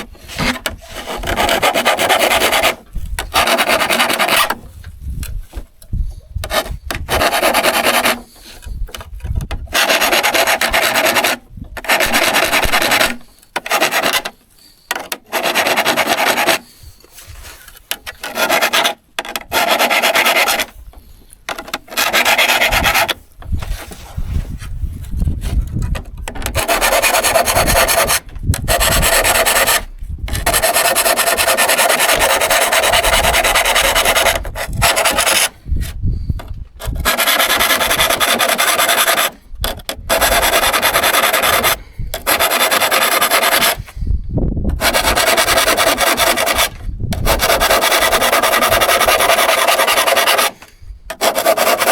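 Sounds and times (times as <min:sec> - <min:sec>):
hand saw rasping strokes: 0:00.0 - 0:51.9.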